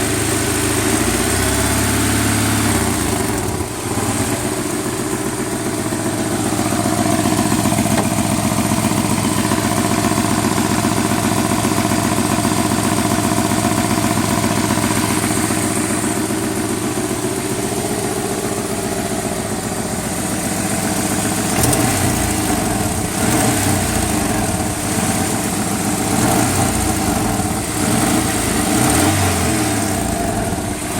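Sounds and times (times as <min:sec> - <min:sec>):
engine idling and revving: 0:00.0 - 0:30.9.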